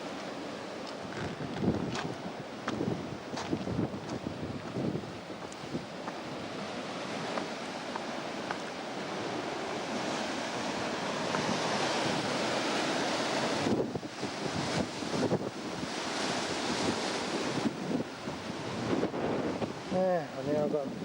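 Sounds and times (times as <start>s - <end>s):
ocean surf washing in: 0.0s - 21.0s
wind buffeting microphone: 1.0s - 21.0s.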